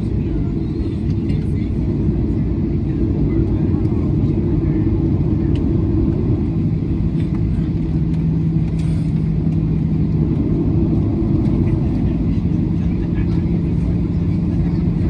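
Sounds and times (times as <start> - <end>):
constant low hum: 0.0 - 15.0
jet engine rumble in cabin: 0.0 - 15.0.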